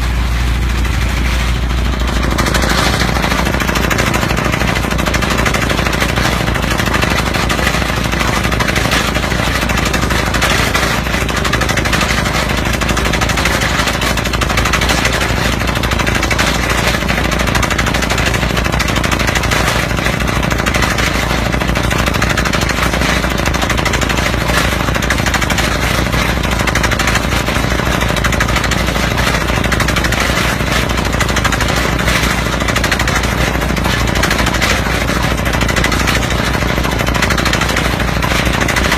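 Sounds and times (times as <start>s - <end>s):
air hammer pounding rock: 0.0s - 38.9s.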